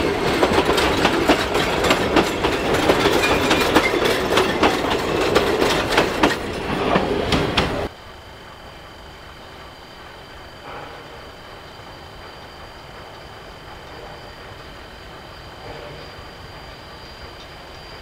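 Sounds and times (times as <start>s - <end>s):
train wheels clattering over rails: 0.0s - 7.9s, 10.0s - 18.0s.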